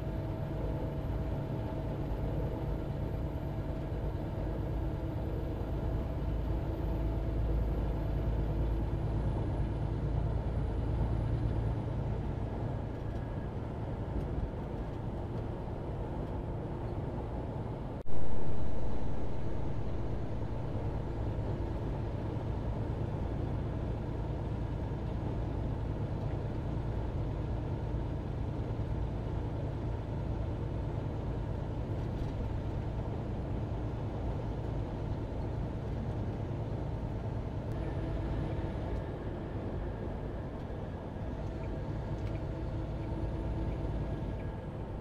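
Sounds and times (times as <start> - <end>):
road noise: 0.0 - 45.0
truck engine drone: 0.0 - 45.0.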